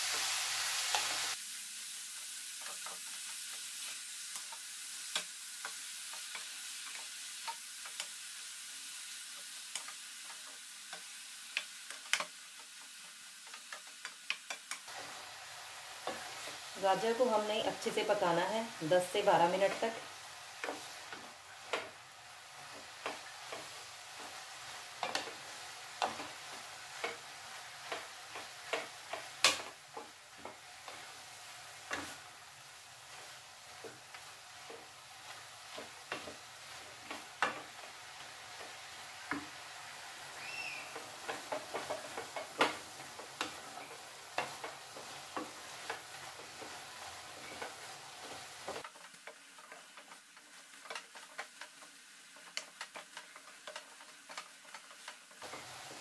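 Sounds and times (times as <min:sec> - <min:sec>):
carrots sizzling in oil: 0:00.0 - 0:56.0.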